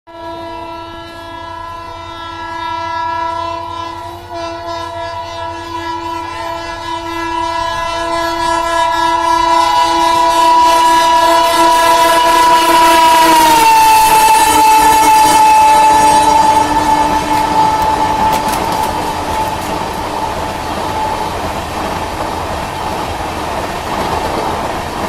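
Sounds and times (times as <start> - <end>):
locomotive air horn blast: 0.1 - 21.4.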